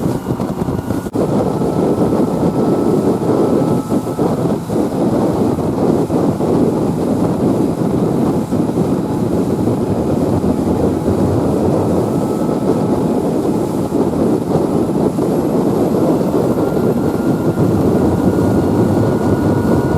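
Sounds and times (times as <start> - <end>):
boat engine roar: 0.0 - 19.9
faint whine rising in pitch: 0.0 - 19.9
wind: 0.0 - 19.9.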